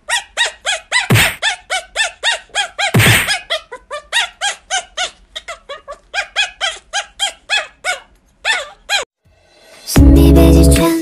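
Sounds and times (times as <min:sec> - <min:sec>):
puppy yelping: 0:00.0 - 0:09.1.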